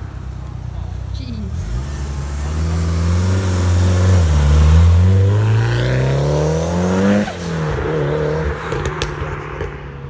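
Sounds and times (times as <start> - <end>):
turbocharged car engine accelerating: 0.8 - 9.8.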